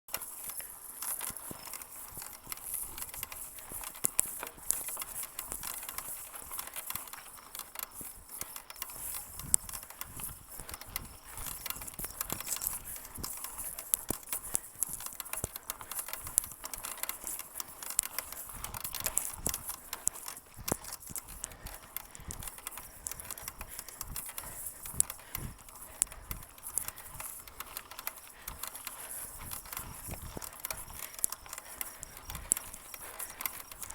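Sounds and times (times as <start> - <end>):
bicycle creaking and clicking: 0.1 - 33.9.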